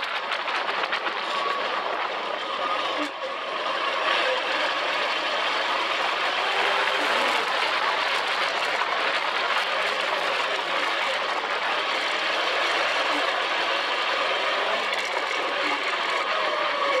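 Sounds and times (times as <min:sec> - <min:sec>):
dune buggy engine running: 0:00.0 - 0:17.0.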